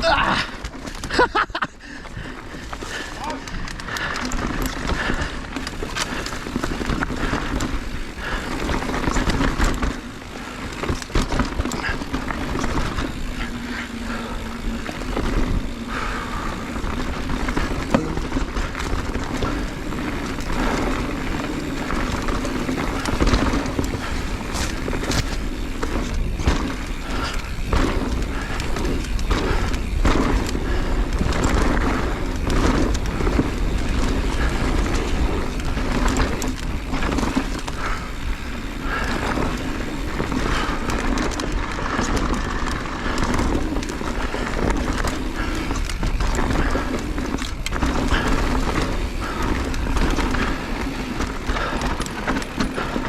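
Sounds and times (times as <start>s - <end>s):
bike knocks and rattles: 0.0s - 53.0s
tyres rolling over rock: 2.4s - 53.0s.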